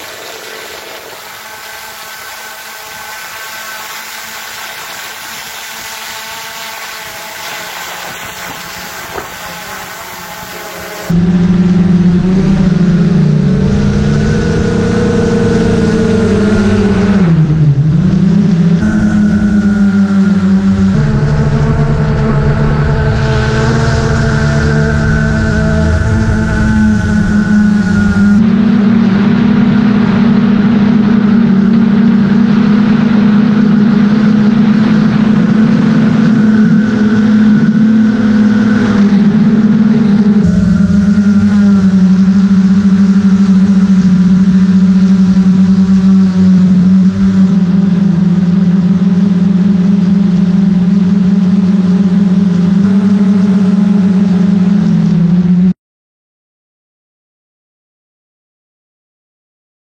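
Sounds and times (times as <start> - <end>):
drone propellers whirring: 0.0 - 55.7.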